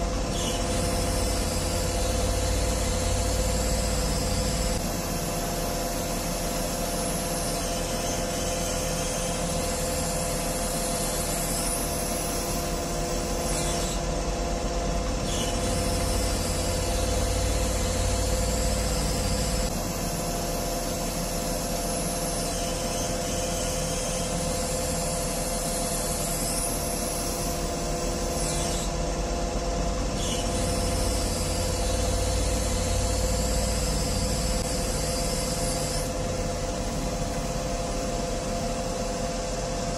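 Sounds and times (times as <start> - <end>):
hydraulic whine: 0.0 - 39.9.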